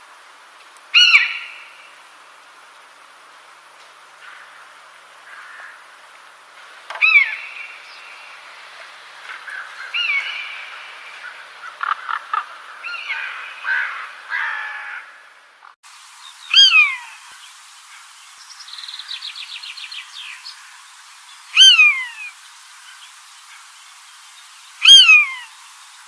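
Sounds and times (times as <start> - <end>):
birds calling: 0.6 - 3.0, 3.7 - 25.6.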